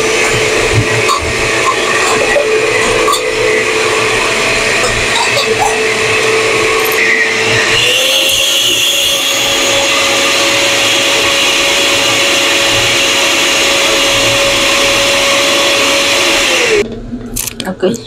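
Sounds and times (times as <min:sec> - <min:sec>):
blender running at high speed: 0:00.0 - 0:16.8.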